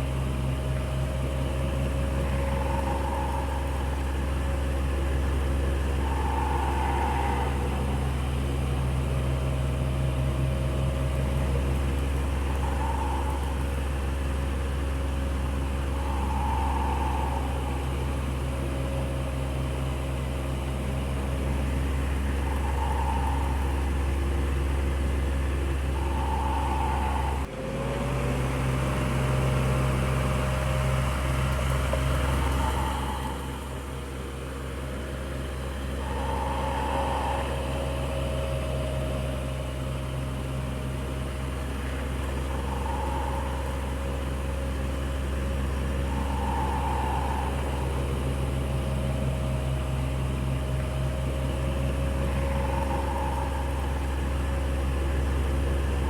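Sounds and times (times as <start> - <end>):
electric fan motor hum: 0.0 - 56.0
faint fan whir: 0.0 - 56.0.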